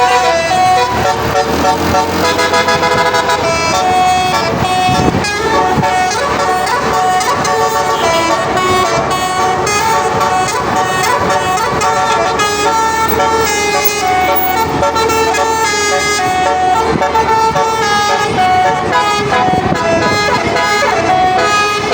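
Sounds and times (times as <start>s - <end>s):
multi-tone bus horn playing a tune: 0.0s - 21.9s.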